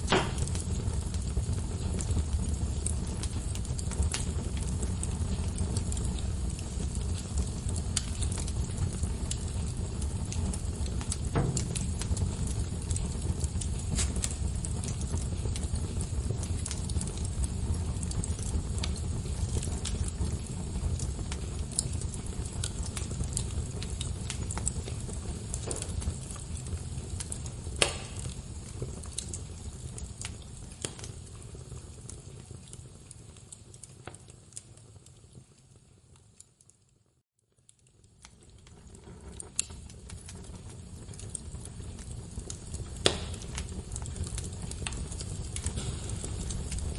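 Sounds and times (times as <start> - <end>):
low rumble of flame: 0.0 - 46.9
wood fire crackling and popping: 0.0 - 46.9.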